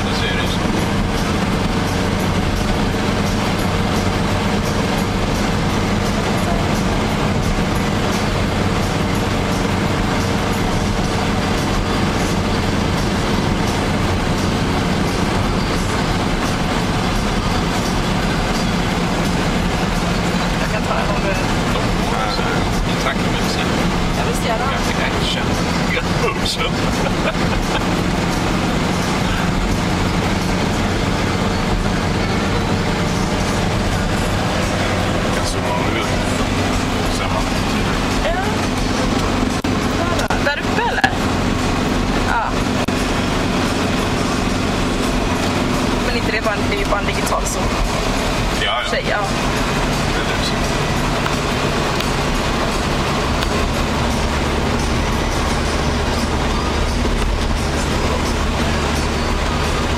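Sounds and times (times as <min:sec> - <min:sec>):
tyre and road rumble: 0:00.0 - 0:59.9
vehicle engine drone: 0:00.0 - 0:59.9.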